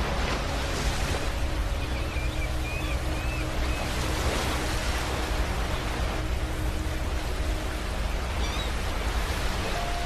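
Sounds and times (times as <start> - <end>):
ocean waves washing on beach: 0.0 - 10.0.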